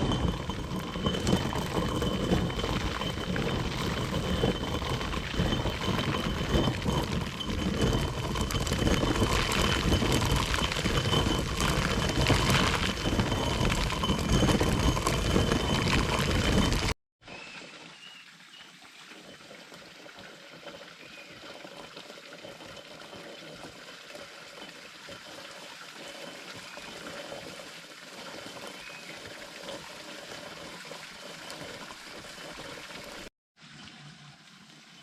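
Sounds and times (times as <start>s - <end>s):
running water trickling: 0.0s - 35.0s.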